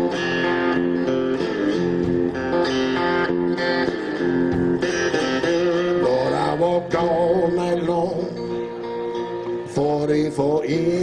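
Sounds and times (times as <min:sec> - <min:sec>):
blues guitar riff: 0:00.0 - 0:11.0.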